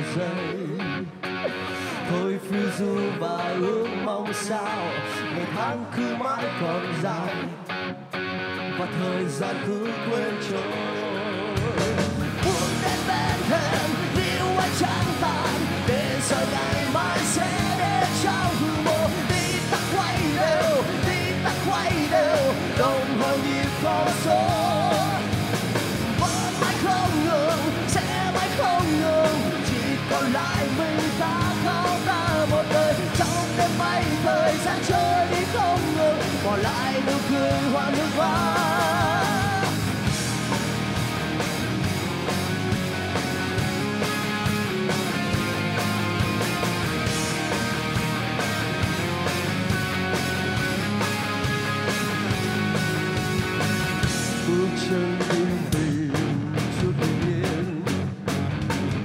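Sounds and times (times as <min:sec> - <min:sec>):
electric guitars: 0:00.0 - 0:59.0
live rock band playing: 0:00.0 - 0:59.0
drums and cymbals: 0:11.6 - 0:59.0.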